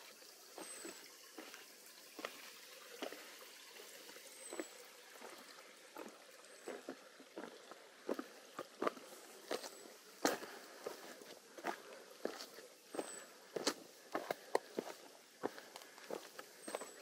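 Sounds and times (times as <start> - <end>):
footsteps on forest trail: 0.5 - 17.0.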